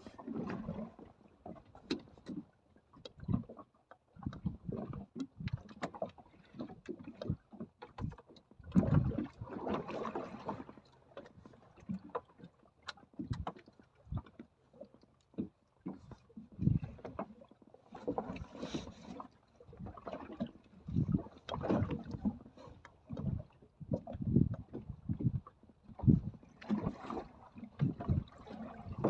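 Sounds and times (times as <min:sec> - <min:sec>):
knocks and clatter from boat: 0:00.0 - 0:29.0
water splashing against boat hull: 0:00.0 - 0:29.0.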